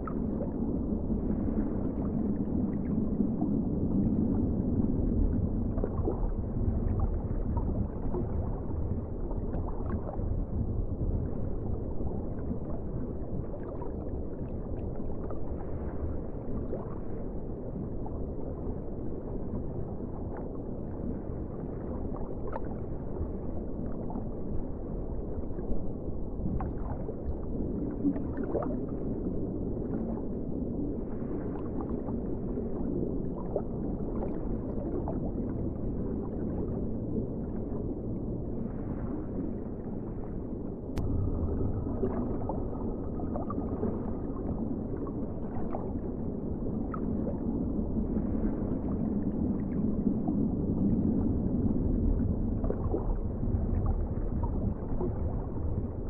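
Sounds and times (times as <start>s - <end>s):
muffled underwater rumble: 0.0s - 56.0s
water gurgling: 0.0s - 56.0s.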